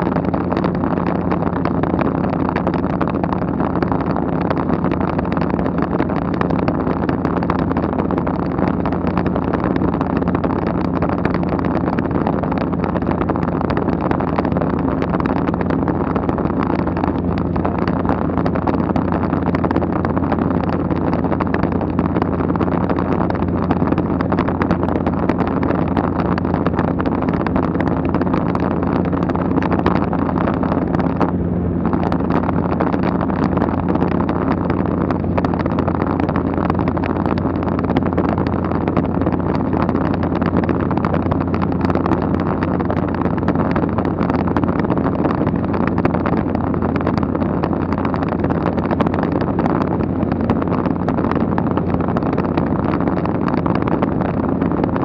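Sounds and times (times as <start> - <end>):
light aircraft engine drone: 0.0 - 55.0
wind rushing past window: 0.0 - 55.0.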